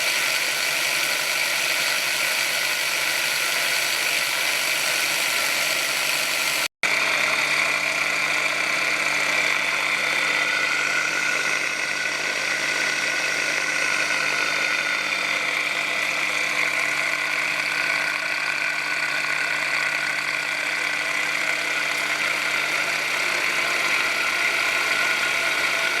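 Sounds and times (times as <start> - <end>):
grinding machine whining: 0.0 - 26.0.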